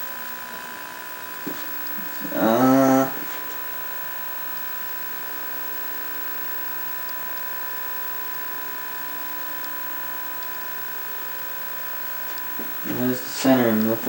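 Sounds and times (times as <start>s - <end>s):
television electrical buzz: 0.0s - 14.0s.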